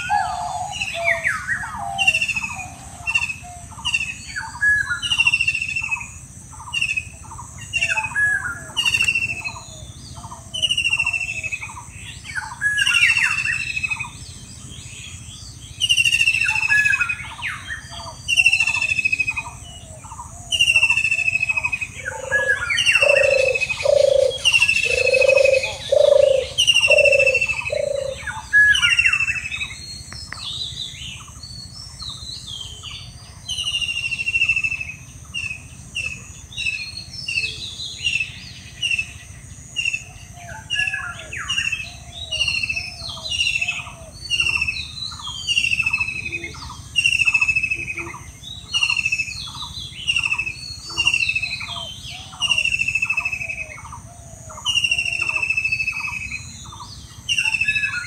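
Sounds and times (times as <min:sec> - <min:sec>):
birds chirping: 0:00.0 - 0:58.0
lower bird call: 0:00.0 - 0:58.0.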